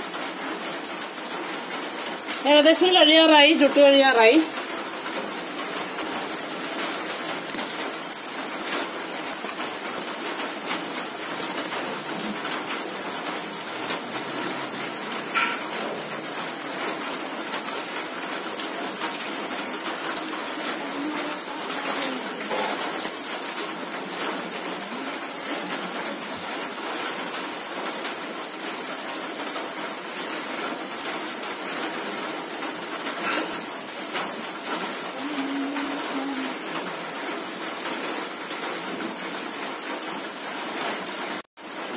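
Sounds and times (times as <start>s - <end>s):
wood fire hissing and crackling: 0.0s - 41.9s.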